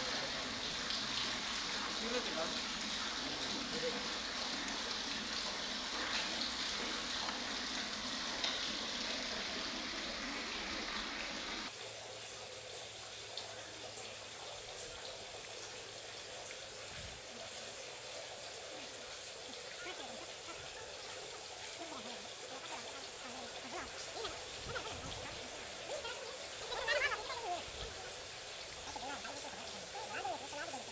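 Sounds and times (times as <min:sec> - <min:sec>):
outdoor background noise: 0:00.0 - 0:30.9
water trickling and dripping: 0:00.0 - 0:30.9.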